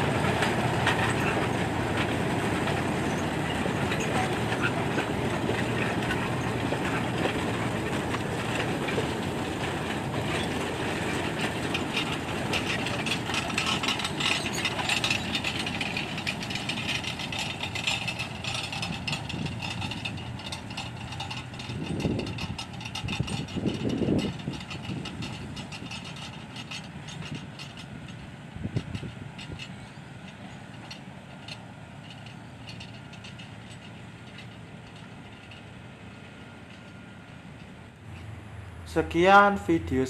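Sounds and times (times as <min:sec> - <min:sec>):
train wagons rumbling past: 0:00.0 - 0:40.0
wheels clacking over rail joints: 0:00.0 - 0:40.0.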